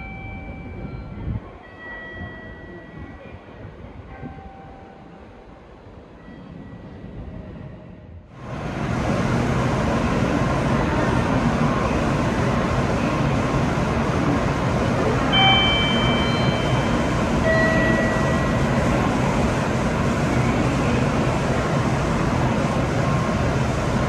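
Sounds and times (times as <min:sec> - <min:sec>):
high-speed train rushing past: 0:00.0 - 0:24.0.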